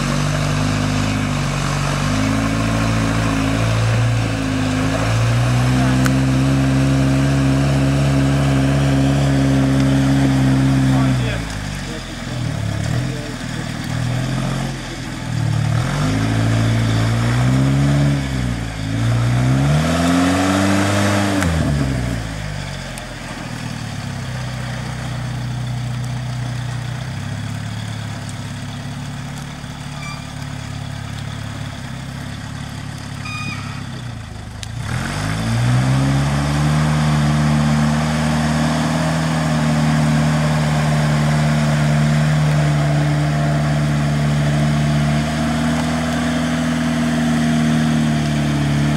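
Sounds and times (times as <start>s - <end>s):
vehicle engine revving and idling: 0.0s - 48.9s.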